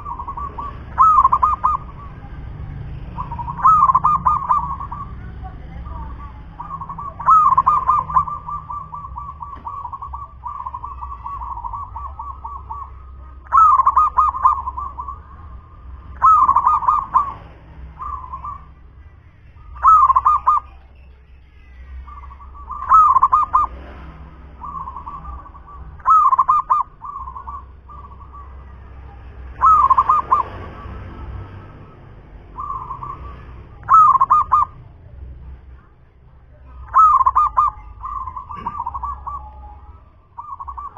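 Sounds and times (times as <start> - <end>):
dove cooing: 0.0 - 18.9, 19.6 - 20.8, 22.0 - 35.0, 36.7 - 40.9.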